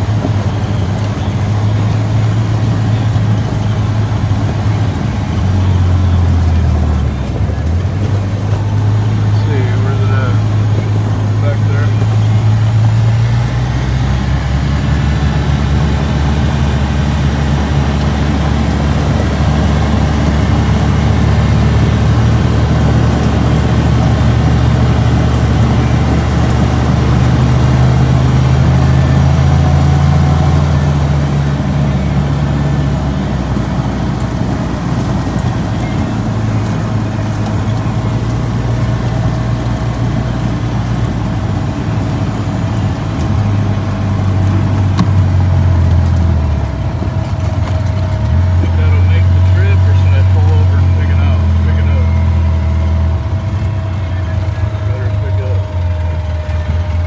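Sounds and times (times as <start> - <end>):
road vehicle driving drone: 0.0 - 57.0.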